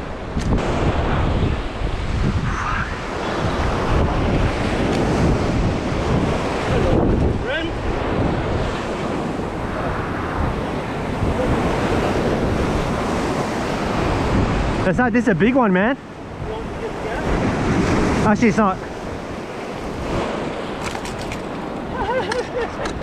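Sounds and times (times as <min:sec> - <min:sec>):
surf crashing on rocks: 0:00.0 - 0:23.0
wind buffeting microphone: 0:00.0 - 0:23.0.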